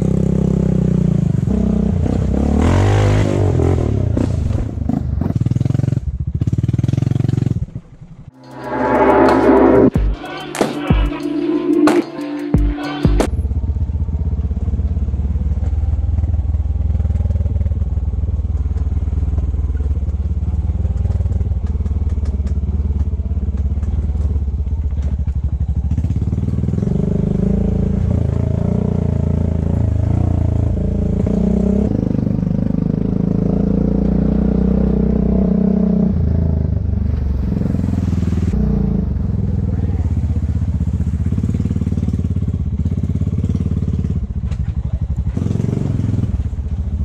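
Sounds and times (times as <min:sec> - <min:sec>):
quad bike engine running: 0:00.0 - 0:08.0, 0:13.3 - 0:37.0, 0:38.4 - 0:47.0.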